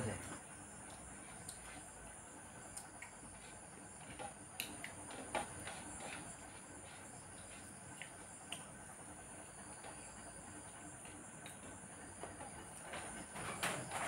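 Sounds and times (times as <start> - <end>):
steady high-pitched whine: 0.0 - 14.0.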